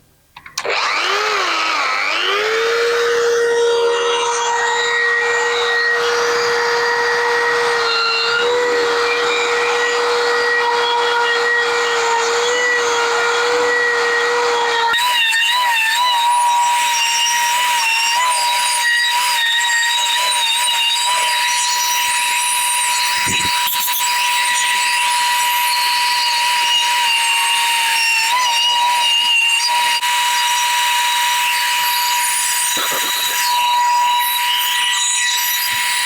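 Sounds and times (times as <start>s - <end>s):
air-powered carving tool whining: 0.4s - 36.0s.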